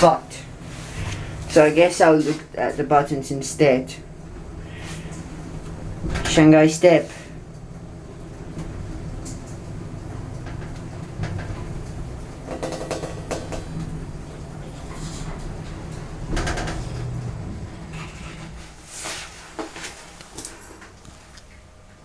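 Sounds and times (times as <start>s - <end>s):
lift machinery humming: 0.0s - 22.0s.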